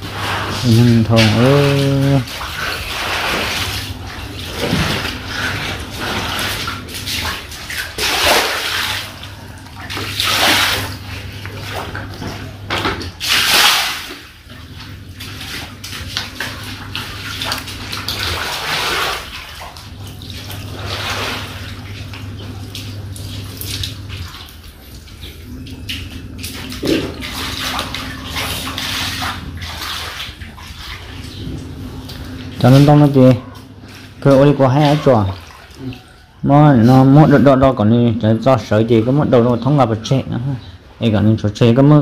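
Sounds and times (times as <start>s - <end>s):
people wading through water: 0.0s - 41.1s
low steady hum: 0.0s - 42.0s.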